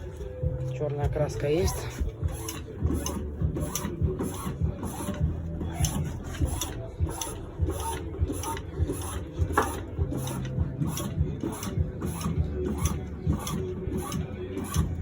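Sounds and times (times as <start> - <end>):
hydraulic pump clicking: 0.0 - 15.0.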